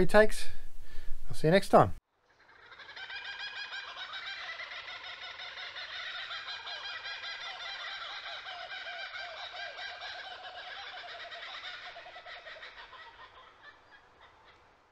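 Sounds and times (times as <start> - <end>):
chorus of bird calls: 2.2 - 14.9.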